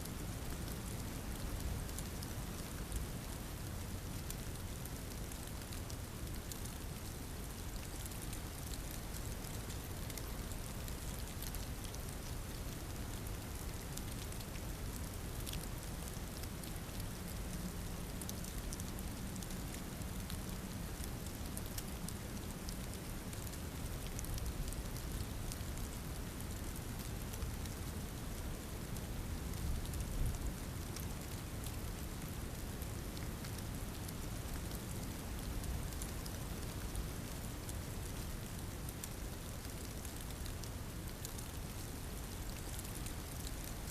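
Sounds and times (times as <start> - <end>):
hiss of falling precipitation: 0.0 - 43.9.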